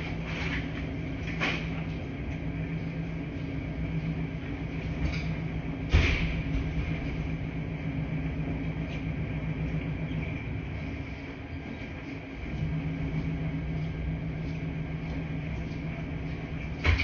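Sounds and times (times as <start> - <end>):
laundry machines humming: 0.0 - 17.0.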